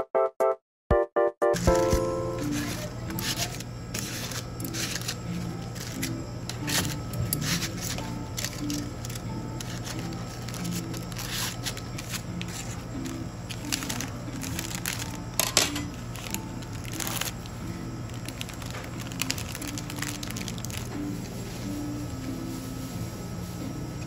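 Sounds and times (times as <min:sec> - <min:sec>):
plastic packaging crinkling: 0:01.6 - 0:21.6.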